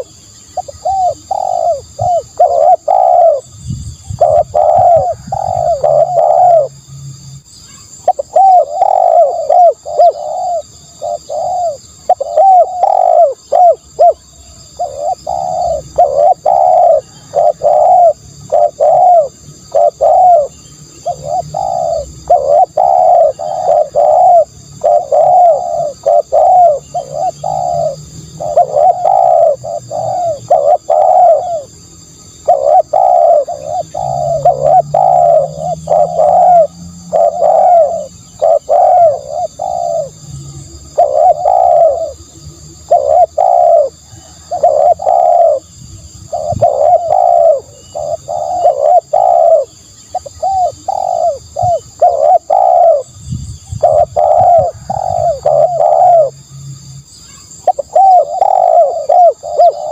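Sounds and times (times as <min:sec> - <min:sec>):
dove cooing: 0:00.0 - 0:06.8, 0:07.8 - 0:56.5, 0:57.3 - 0:59.9.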